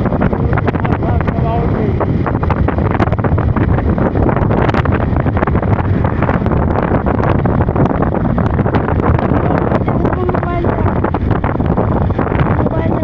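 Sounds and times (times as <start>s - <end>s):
motorcycle running: 0.0s - 13.0s
wind buffeting microphone: 0.0s - 13.0s.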